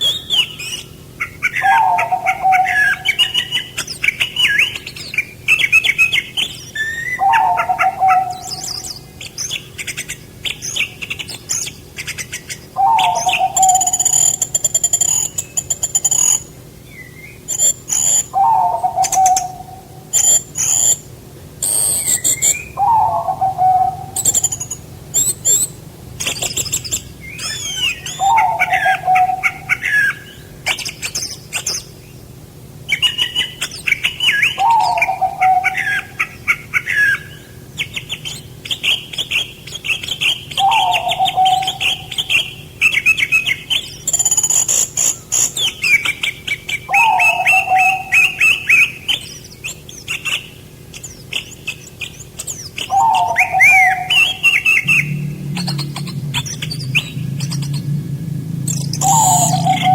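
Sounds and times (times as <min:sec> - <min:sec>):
bird chattering song: 0:00.0 - 0:59.9
low falling bird call: 0:00.0 - 0:59.9
songbirds chirping and trilling: 0:00.0 - 0:59.9.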